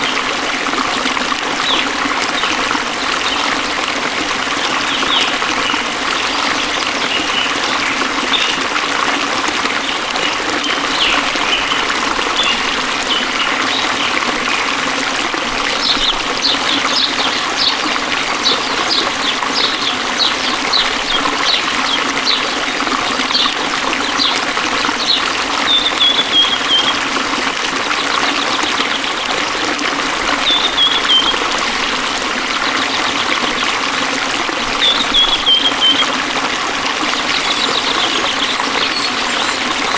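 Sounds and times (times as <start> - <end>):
stream trickling and flowing: 0.0 - 39.9.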